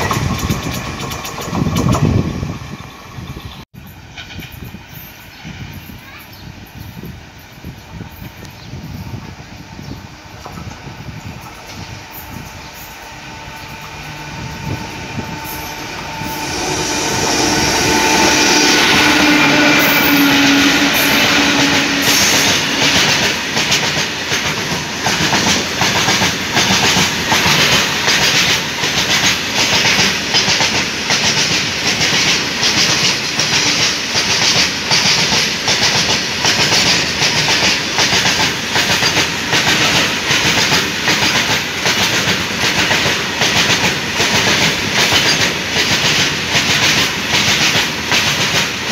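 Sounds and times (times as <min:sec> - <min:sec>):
electric locomotives hauling train: 0:00.0 - 0:48.9.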